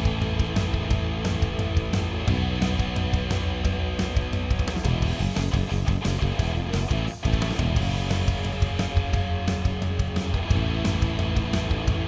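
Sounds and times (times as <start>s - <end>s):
distorted electric guitar: 0.0s - 12.0s
hard rock backing track with drums: 0.0s - 12.0s.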